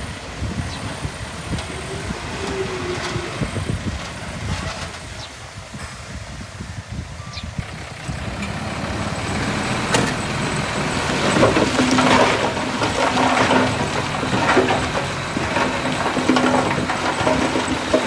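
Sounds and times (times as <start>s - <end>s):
diesel engine running: 0.0s - 17.5s.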